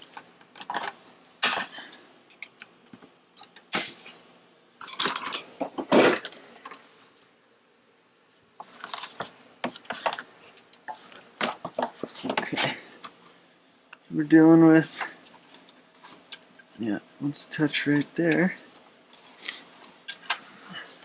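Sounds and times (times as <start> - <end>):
hand tools and plastic parts clattering: 0.0 - 7.3, 8.3 - 13.4, 14.6 - 21.0.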